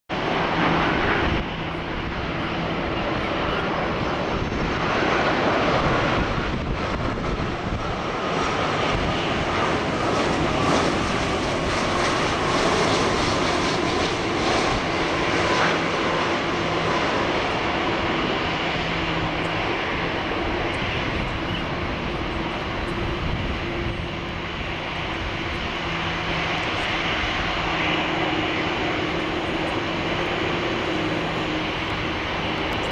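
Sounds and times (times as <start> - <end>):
jet engine whining tones: 0.1 - 32.9
jet engines rushing: 0.1 - 32.9.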